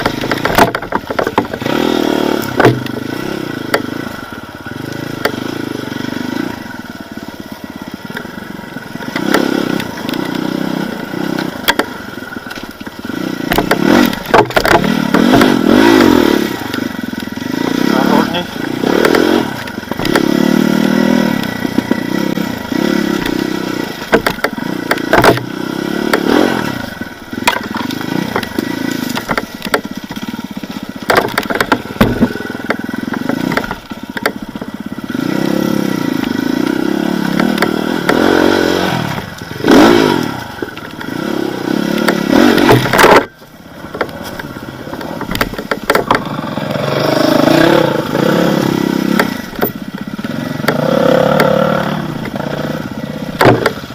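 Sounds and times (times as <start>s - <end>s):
sharp knocks and clatter: 0.0s - 4.2s, 8.9s - 17.3s, 18.4s - 41.2s, 41.8s - 46.5s, 48.9s - 53.9s
motorcycle engine revving: 0.0s - 53.9s.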